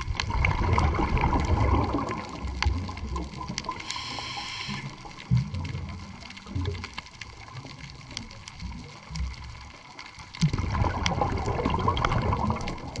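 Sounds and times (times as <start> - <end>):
gurgling water rush: 0.0 - 9.6, 10.4 - 13.0
underwater bubbling: 0.0 - 13.0
underwater clicks: 0.0 - 13.0.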